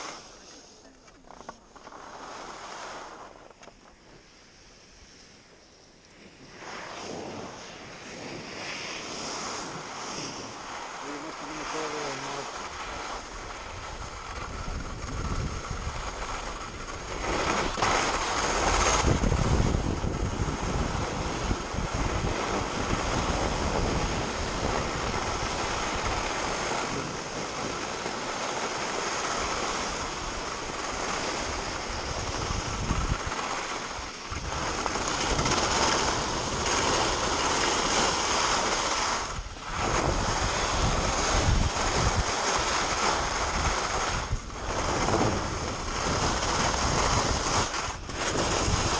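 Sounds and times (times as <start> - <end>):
skis scraping over snow: 0.0 - 48.9
wind buffeting microphone: 6.3 - 48.9.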